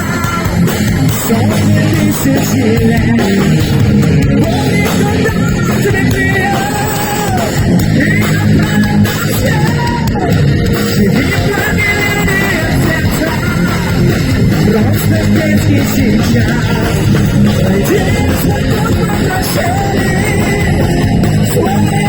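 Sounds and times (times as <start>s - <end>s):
bending lead guitar melody: 0.0s - 22.0s
heavy metal band playing: 0.0s - 22.0s.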